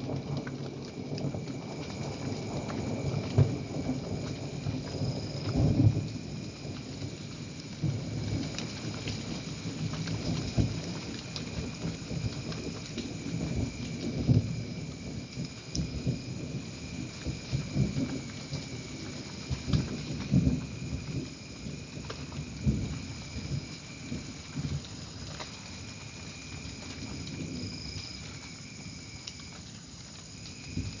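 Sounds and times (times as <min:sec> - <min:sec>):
raindrops ticking: 0:00.0 - 0:31.0
steady rainfall: 0:00.0 - 0:31.0.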